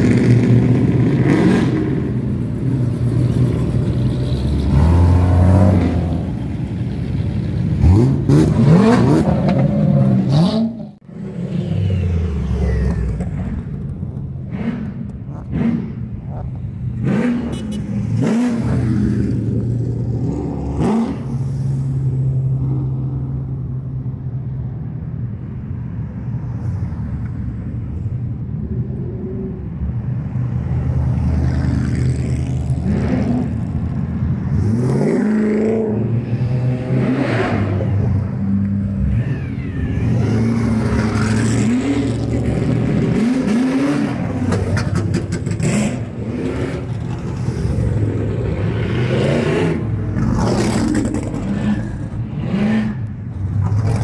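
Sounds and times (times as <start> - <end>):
car engines revving past: 0.0 - 24.2, 28.4 - 54.0.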